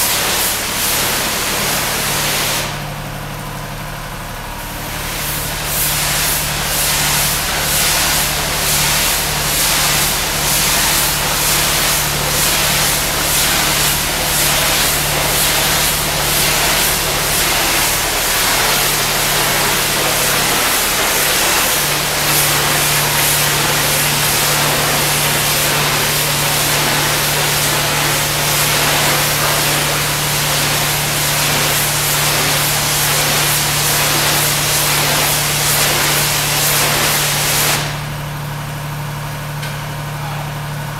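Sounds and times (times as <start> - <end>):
pressure washer water jet hissing: 0.0 - 2.9, 4.8 - 38.1.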